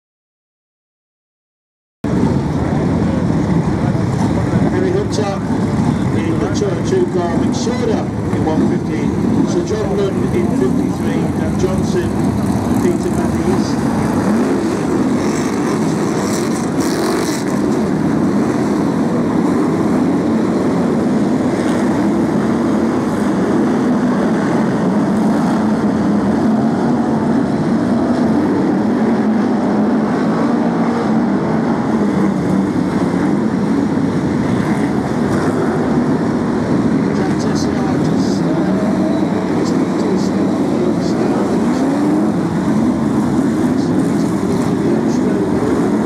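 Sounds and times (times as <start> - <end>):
racing car engines droning: 2.1 - 46.0.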